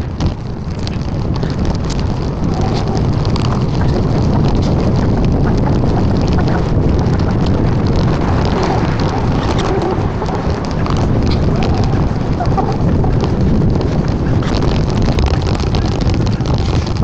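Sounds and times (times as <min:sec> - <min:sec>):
bicycle ticks and rattles: 0:00.0 - 0:17.0
wind buffeting microphone: 0:00.0 - 0:17.0.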